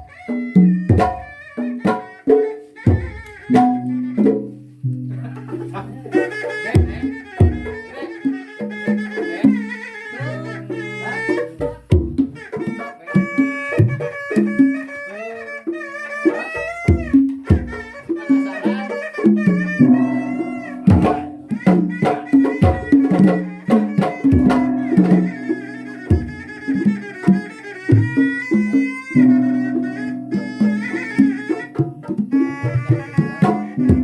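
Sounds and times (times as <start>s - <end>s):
drum strokes: 0.0s - 14.8s, 16.2s - 34.0s
shawm playing ornamented melody: 0.0s - 34.0s.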